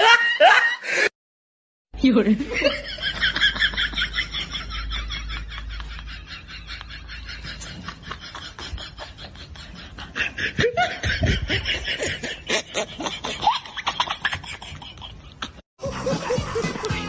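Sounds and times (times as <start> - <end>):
group of people laughing: 2.4 - 17.0.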